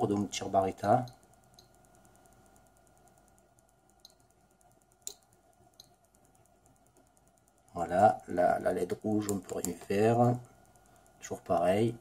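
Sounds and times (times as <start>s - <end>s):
faint computer clicks: 0.0s - 12.0s
faint steady hum: 0.0s - 12.0s.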